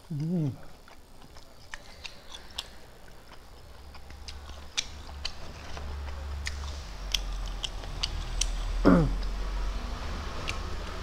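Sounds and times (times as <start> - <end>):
chewing rice: 0.0 - 9.4
low hum: 0.0 - 11.0.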